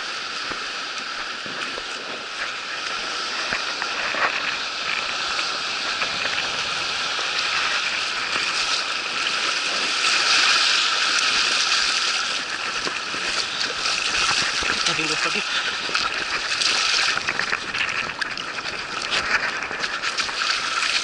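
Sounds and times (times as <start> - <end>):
surf fizzing over sand: 0.0 - 21.0.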